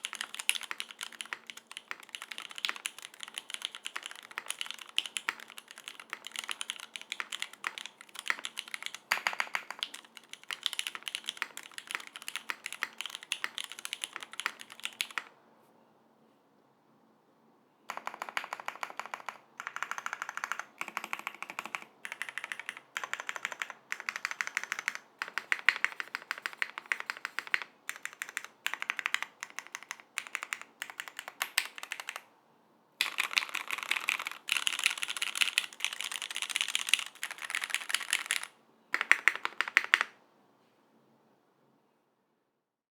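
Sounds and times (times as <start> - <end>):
mechanical keyboard typing: 0.0 - 15.3, 17.9 - 32.3, 33.0 - 40.2.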